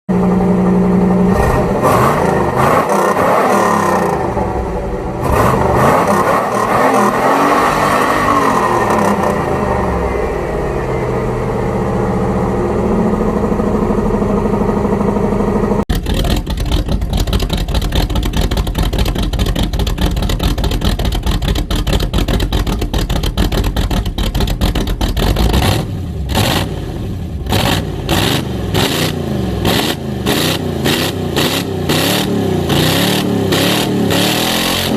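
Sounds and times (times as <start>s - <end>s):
car engine revving: 0.1s - 34.9s
choppy pulsing exhaust note: 0.1s - 34.9s.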